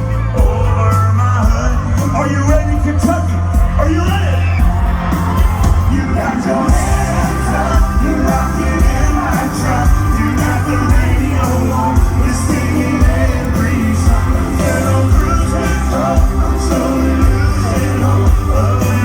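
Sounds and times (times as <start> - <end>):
lead singer singing: 0.0 - 19.0
live band playing: 0.0 - 19.0.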